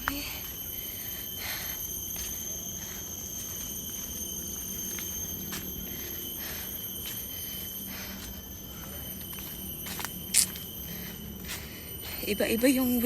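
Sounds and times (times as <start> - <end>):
steady high-pitched whine: 0.0 - 13.0
walking and handling noise: 1.8 - 6.3, 7.0 - 13.0.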